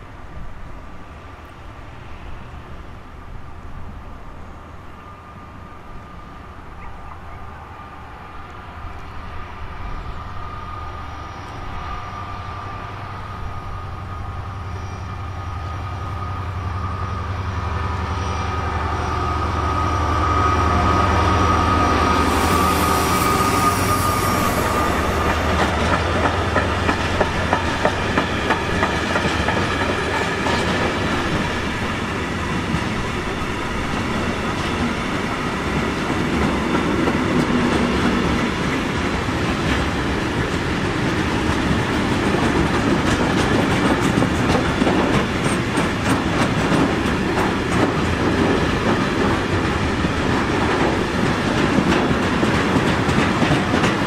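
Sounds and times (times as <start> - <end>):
train passing: 0.0 - 54.0.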